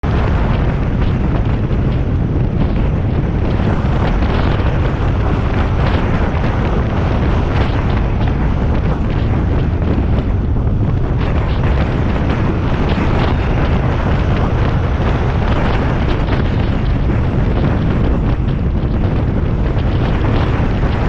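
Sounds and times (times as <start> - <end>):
wind and road noise: 0.0 - 21.0
wind buffeting microphone: 0.0 - 21.0.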